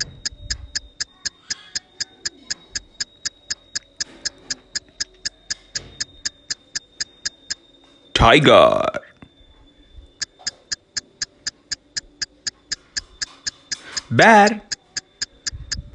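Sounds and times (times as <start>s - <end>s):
rapid even ticking: 0.0s - 7.6s, 10.2s - 15.9s
faint high whine: 2.5s - 15.9s.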